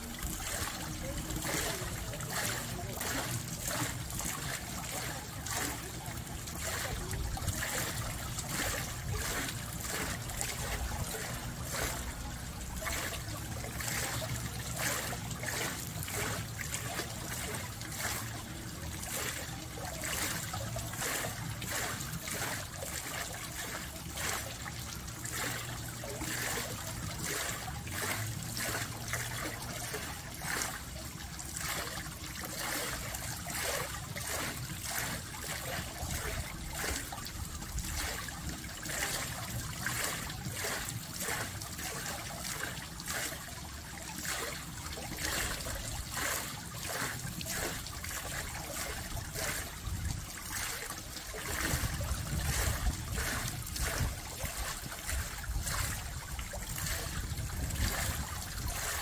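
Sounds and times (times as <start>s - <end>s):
small water splashes: 0.0s - 59.0s
water trickling onto waterwheel: 0.0s - 59.0s.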